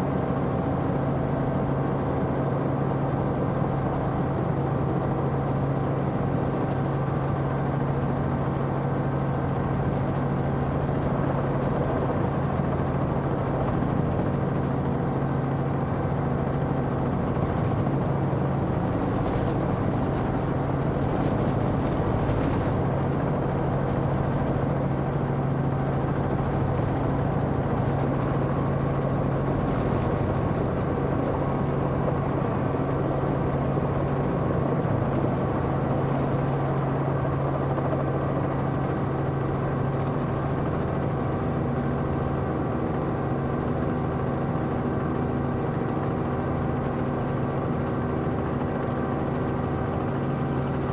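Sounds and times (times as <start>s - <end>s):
helicopter drone from inside cabin: 0.0s - 50.9s.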